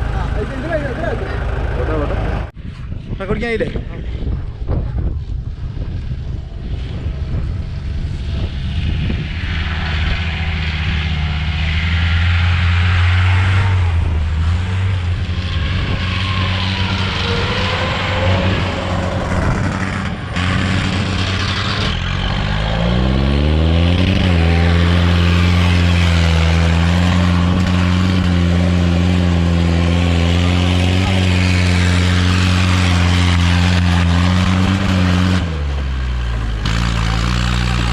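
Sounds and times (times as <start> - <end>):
jeep engine running: 0.0 - 2.6, 6.0 - 37.9
rushing noise of moving vehicle: 0.0 - 37.9.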